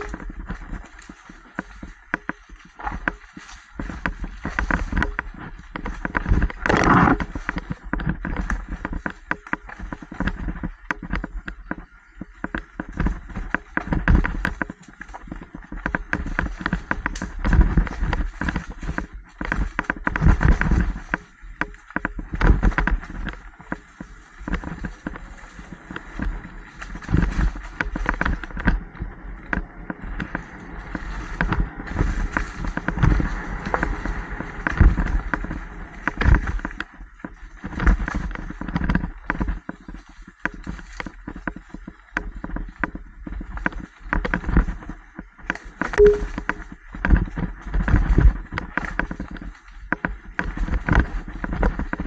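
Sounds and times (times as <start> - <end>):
bike rattling over bumps: 0.0 - 52.0
low wind rumble: 0.0 - 52.0.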